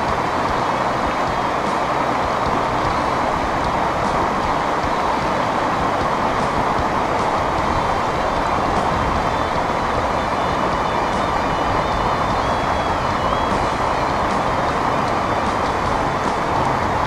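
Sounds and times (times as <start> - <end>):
river water rushing over stones: 0.0 - 17.0.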